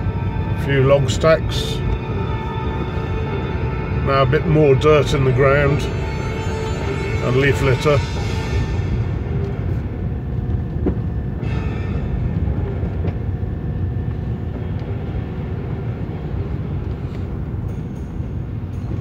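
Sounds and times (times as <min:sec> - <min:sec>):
tyres and engine rumble: 0:00.0 - 0:19.0.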